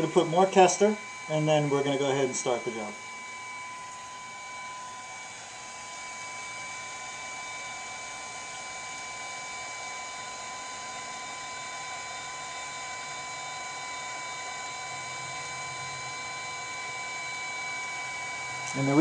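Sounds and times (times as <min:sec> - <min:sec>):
fan whirring: 0:00.0 - 0:19.0
thin high whine: 0:00.0 - 0:19.0.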